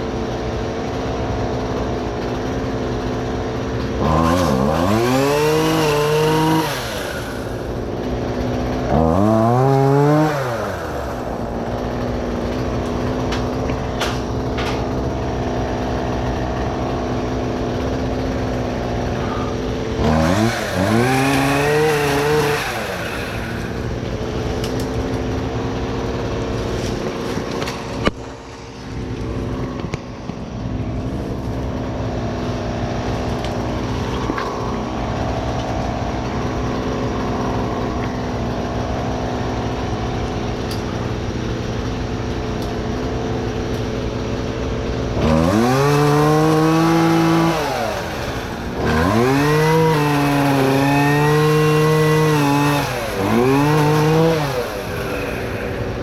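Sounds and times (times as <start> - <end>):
small petrol engine revving: 0.0 - 56.0.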